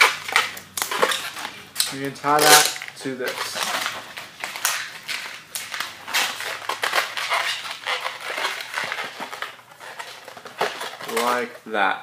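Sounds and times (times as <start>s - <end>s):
balloons rubbing and squeaking: 0.0s - 11.6s.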